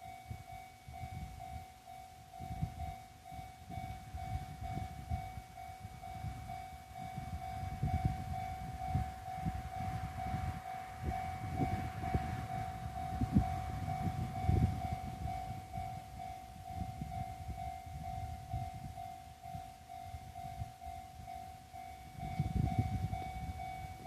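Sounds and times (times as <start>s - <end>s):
level crossing alarm ringing: 0.0s - 24.0s
train rumbling and knocking: 2.4s - 24.0s.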